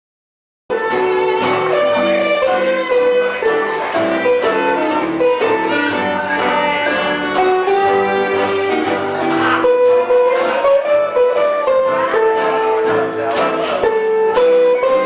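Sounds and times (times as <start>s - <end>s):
rhythmic chordal accompaniment: 0.7s - 15.0s
violin melody: 0.7s - 15.0s.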